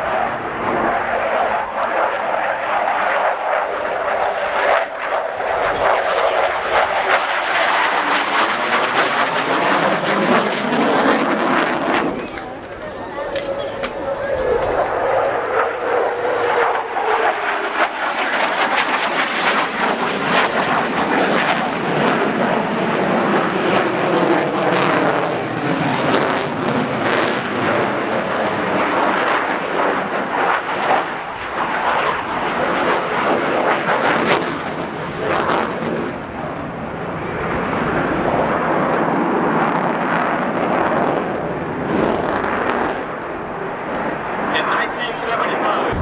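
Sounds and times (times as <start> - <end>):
jet flying overhead: 0.0 - 46.0.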